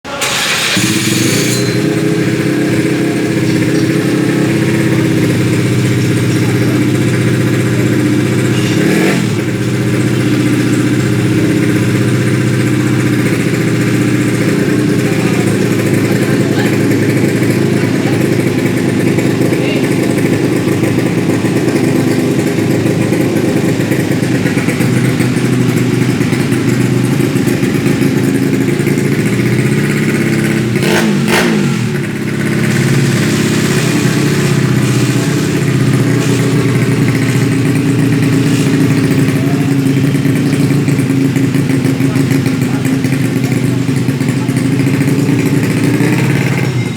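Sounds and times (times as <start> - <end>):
scooter engine exhaust note: 0.1 - 46.9.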